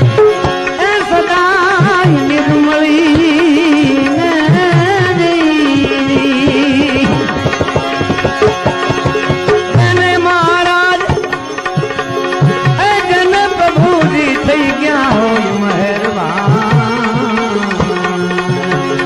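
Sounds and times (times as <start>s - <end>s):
tabla strokes: 0.0s - 19.0s.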